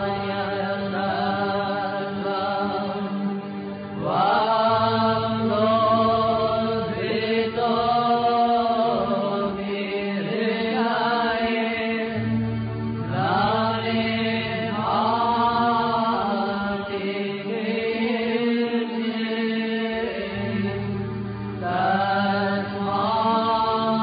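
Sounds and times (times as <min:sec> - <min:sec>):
person chanting a hymn: 0:00.0 - 0:24.0.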